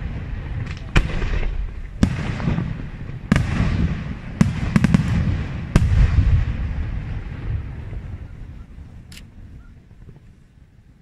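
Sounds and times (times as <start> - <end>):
low rumbling echo: 0.0 - 11.0.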